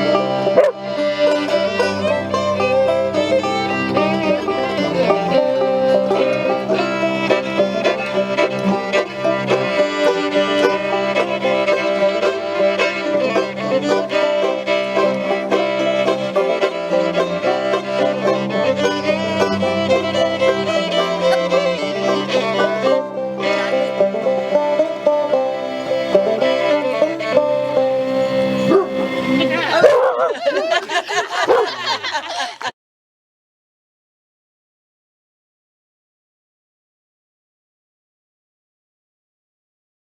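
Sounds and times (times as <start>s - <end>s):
fiddle and banjo string-band tune: 0.0s - 32.7s.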